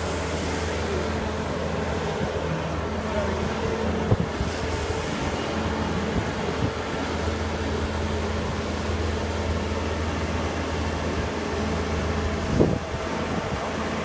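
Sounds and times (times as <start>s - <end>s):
diesel engine at high revs: 0.0s - 14.0s.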